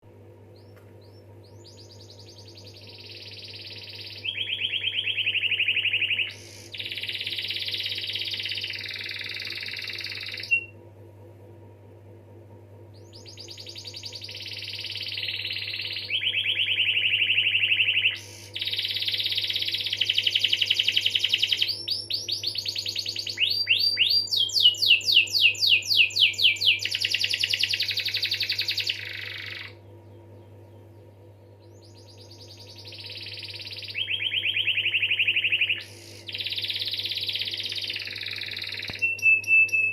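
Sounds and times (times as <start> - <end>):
low hum: 0.0 - 39.9
canary singing trills: 0.5 - 10.7, 13.0 - 39.9.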